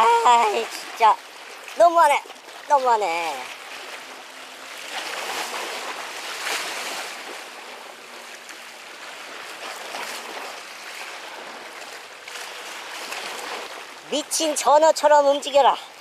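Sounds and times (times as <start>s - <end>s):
small waves washing against rocks: 0.0s - 15.7s.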